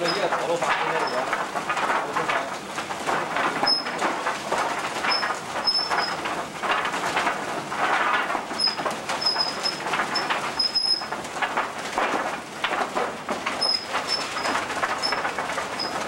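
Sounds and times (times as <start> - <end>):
wooden mill rattling clatter: 0.0 - 16.0.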